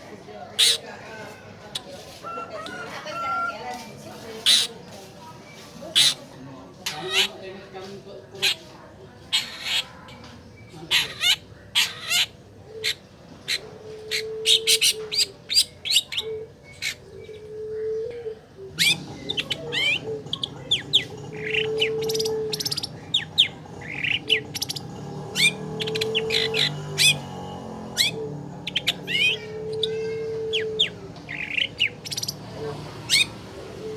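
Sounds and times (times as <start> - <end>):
shrike singing chirps and squawks: 0.5 - 1.1, 1.7 - 7.6, 8.4 - 33.9.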